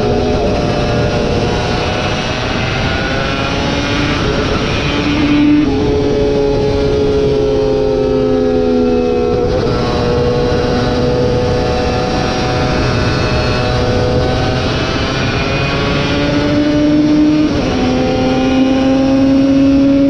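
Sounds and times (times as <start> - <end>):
racing motorcycle engine under load: 0.0 - 20.0.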